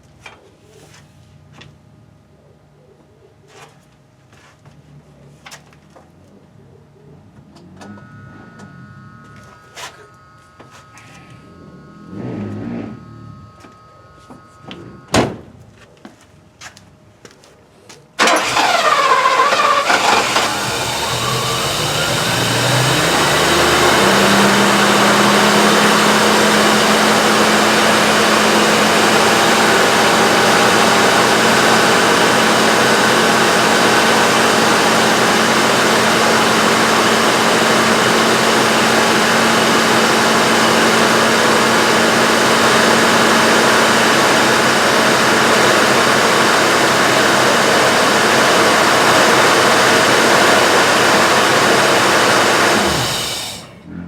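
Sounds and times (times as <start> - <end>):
car engine running steadily: 7.4 - 15.6, 18.2 - 54.0.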